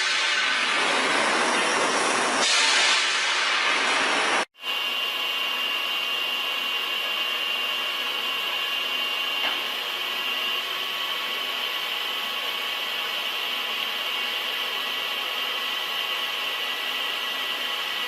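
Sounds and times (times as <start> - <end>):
heavy metalworking machine noise: 0.0 - 18.0
machine noise with high whine: 0.0 - 18.0.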